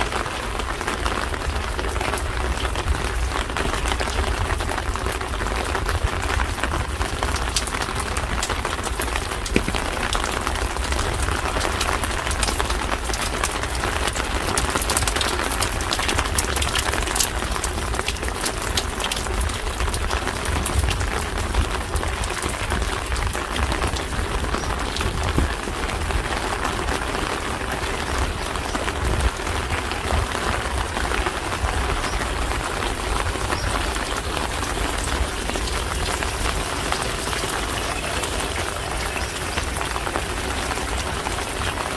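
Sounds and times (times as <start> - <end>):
rain falling on street: 0.0 - 41.9.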